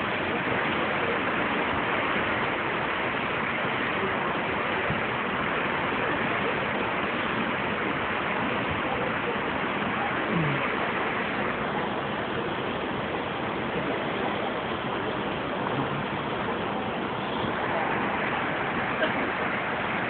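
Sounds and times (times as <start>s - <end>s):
sea water rushing past hull: 0.0s - 20.0s.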